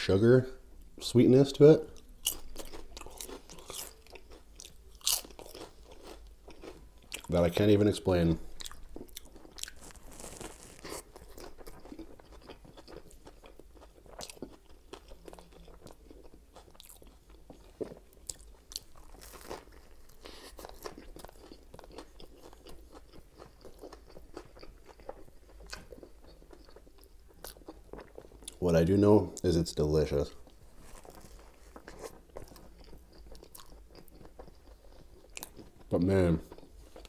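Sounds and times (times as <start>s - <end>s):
sandwich crunching chewing: 1.9s - 7.4s, 8.4s - 28.6s, 30.3s - 37.0s.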